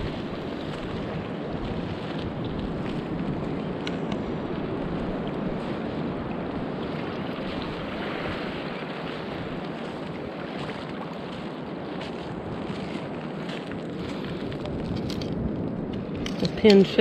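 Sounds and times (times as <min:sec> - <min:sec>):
small waves washing: 0:00.0 - 0:17.0
wind noise on microphone: 0:00.0 - 0:17.0.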